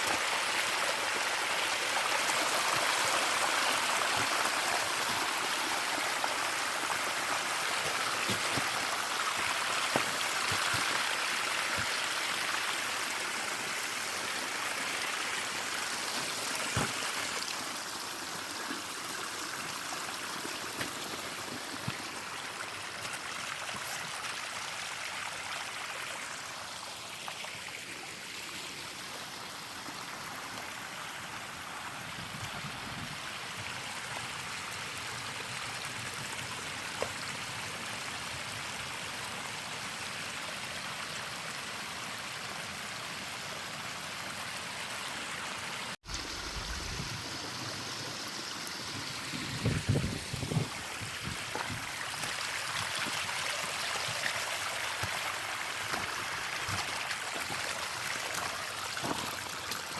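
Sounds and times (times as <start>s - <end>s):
water flowing in a stream: 0.0s - 59.9s.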